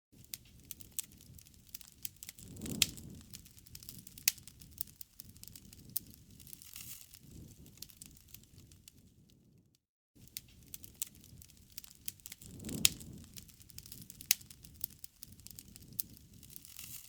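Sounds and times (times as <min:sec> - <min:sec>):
wood fire crackling and popping: 0:00.2 - 0:17.0.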